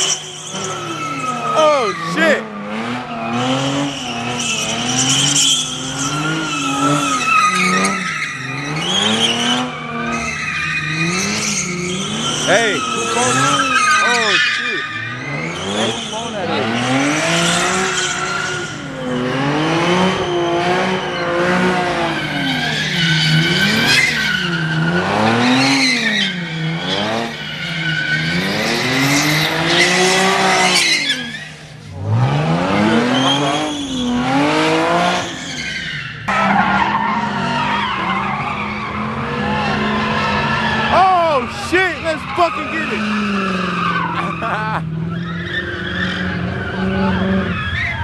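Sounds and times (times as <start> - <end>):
car engine revving: 0.0 - 48.0
tyres squealing and skidding: 0.0 - 48.0.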